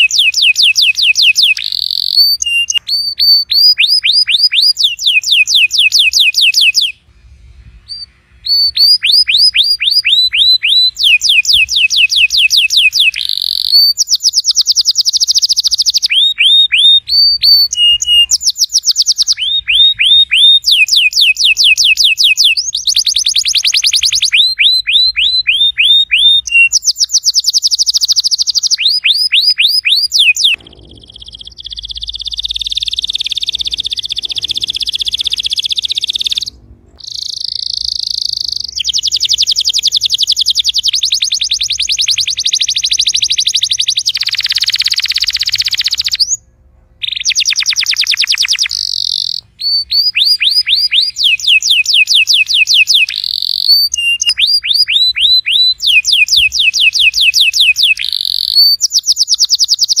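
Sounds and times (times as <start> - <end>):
canary singing trills: 0.0 - 60.0.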